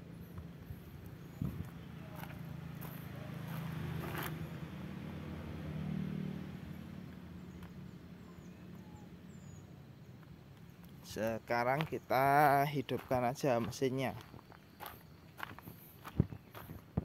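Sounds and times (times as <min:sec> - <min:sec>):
passing vehicle engine hum: 0:00.0 - 0:14.2.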